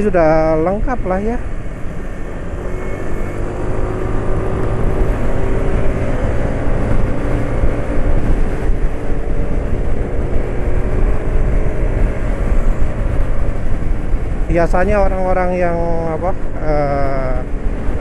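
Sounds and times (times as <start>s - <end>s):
scooter engine drone: 0.0s - 18.0s
wind rushing over microphone: 0.0s - 18.0s.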